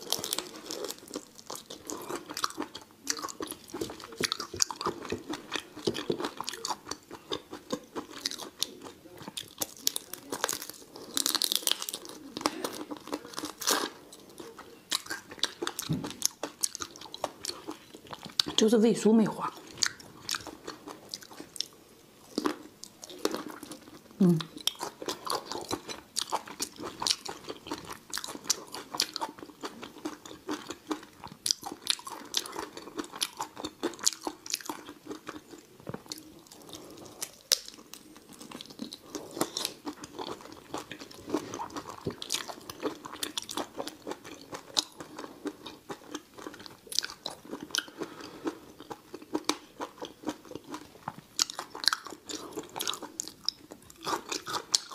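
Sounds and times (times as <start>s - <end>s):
person chewing and crunching: 0.0s - 18.7s, 19.4s - 54.9s.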